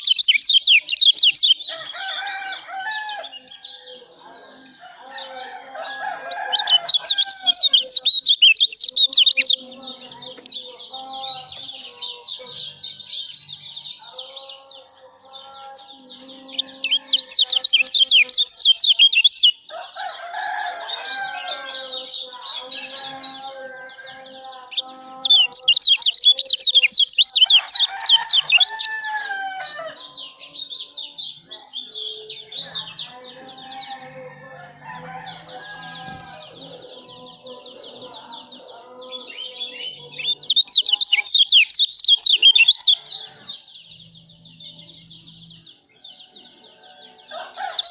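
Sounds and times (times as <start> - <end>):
songbird twittering song: 0.0 - 47.9.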